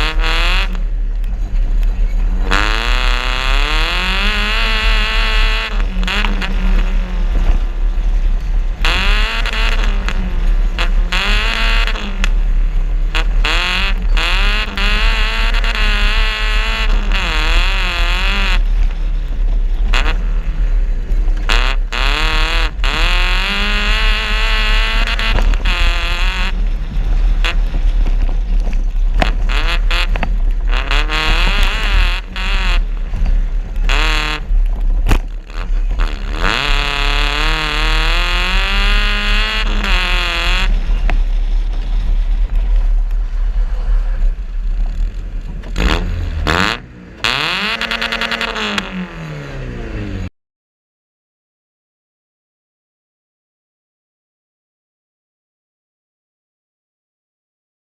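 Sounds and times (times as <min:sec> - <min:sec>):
car engine revving hard: 0:00.0 - 0:01.4, 0:02.2 - 0:42.6, 0:45.5 - 0:50.3.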